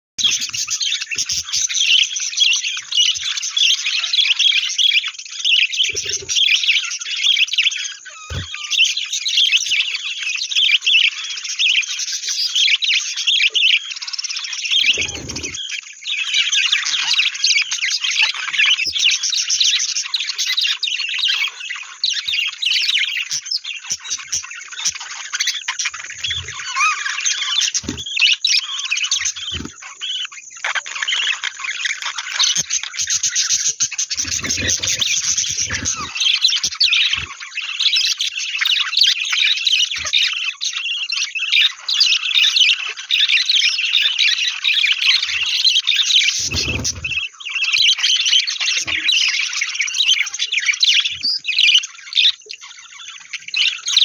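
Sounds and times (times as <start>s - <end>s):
budgerigars chirping: 0.2s - 54.0s.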